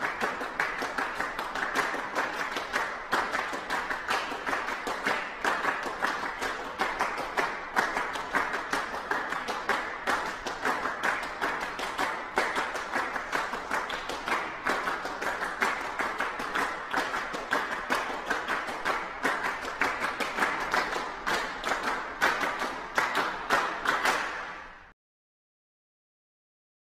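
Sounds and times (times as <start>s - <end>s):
crowd applauding: 0.0s - 24.8s.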